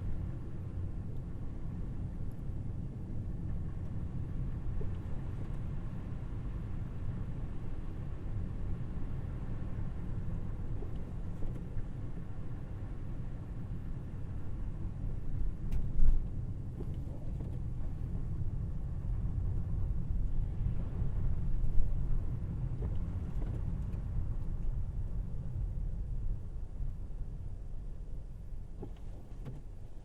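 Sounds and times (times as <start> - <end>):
road and tyre rumble: 0.0 - 30.0.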